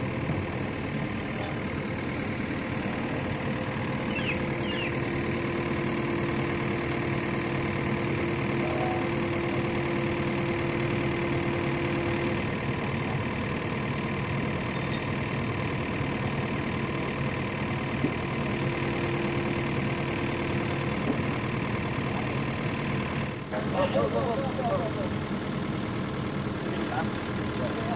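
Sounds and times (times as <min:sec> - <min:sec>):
excavator diesel engine idling: 0:00.0 - 0:27.9.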